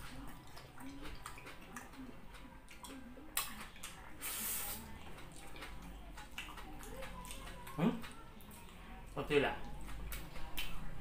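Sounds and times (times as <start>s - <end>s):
wet chewing and lip smacks: 0.0s - 8.9s, 9.6s - 11.0s.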